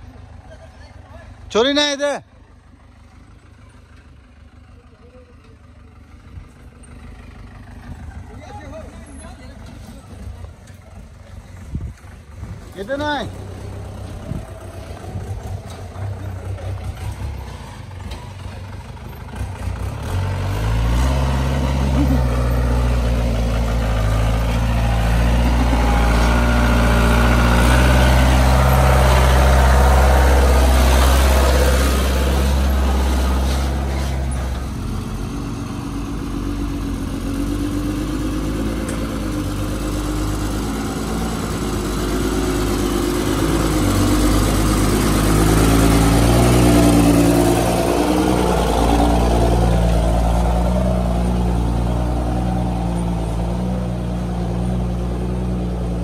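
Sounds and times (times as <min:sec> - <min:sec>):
heavy truck engine: 0:00.0 - 0:56.0
jeep engine running: 0:00.0 - 0:56.0.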